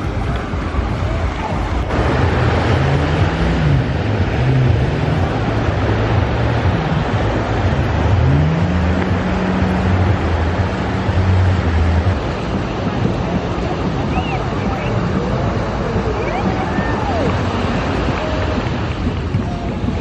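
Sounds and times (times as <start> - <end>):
deep swooping tone: 0.0 - 18.9
surf rushing: 0.0 - 20.0
wind on microphone: 0.0 - 20.0.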